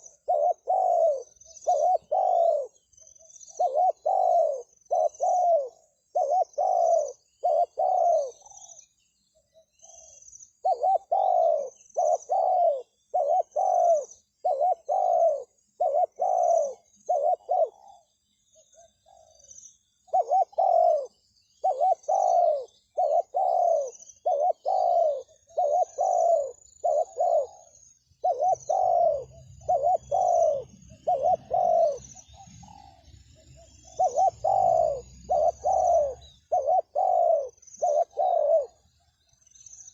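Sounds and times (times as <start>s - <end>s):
dove cooing: 0.0s - 8.9s, 9.6s - 38.8s
birds chirping: 0.0s - 39.9s.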